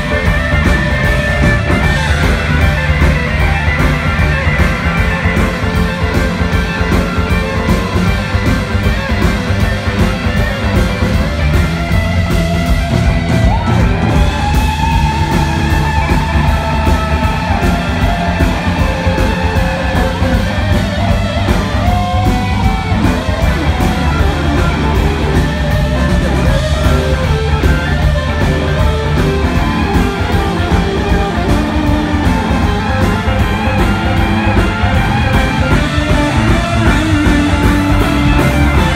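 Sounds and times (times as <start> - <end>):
electric guitar lead lines: 0.0 - 38.9
live rock band playing: 0.0 - 38.9.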